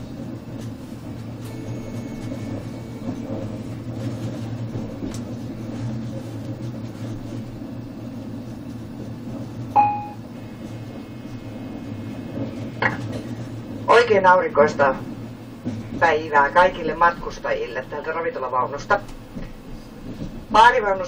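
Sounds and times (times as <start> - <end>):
passenger train rumble: 0.0 - 21.0.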